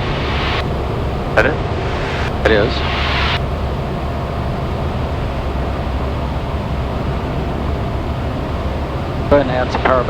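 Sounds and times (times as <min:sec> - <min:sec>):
plane engine and propeller: 0:00.0 - 0:10.0.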